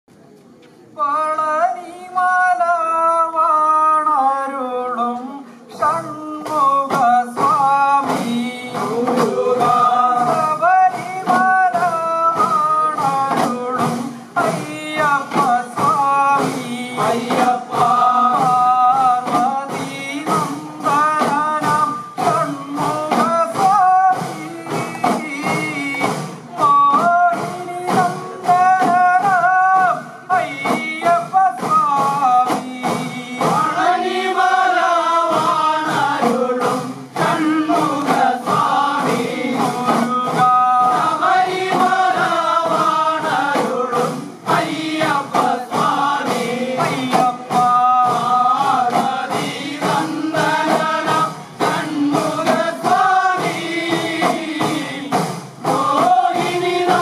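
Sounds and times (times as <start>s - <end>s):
men's chorus singing folk song: 1.2s - 57.0s
hourglass drums beaten: 7.4s - 57.0s.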